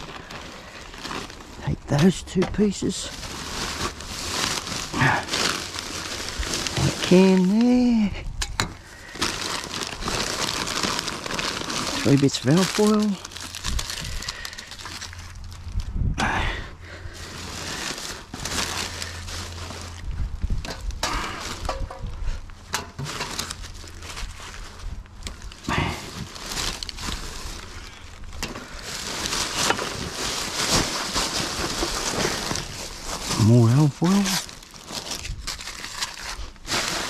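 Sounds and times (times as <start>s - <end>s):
foil and litter rustling: 0.0s - 15.9s, 16.9s - 37.0s.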